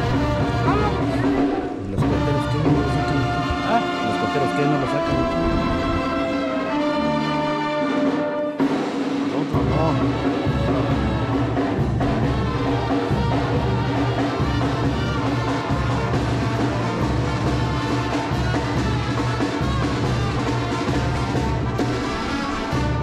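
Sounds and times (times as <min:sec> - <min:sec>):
brass band music: 0:00.0 - 0:23.0
drums: 0:00.0 - 0:23.0.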